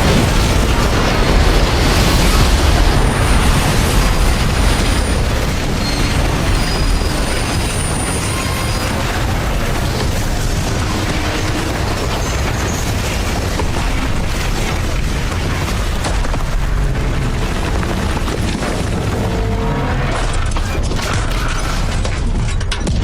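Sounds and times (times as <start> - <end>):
train crash rumbling: 0.0 - 23.0.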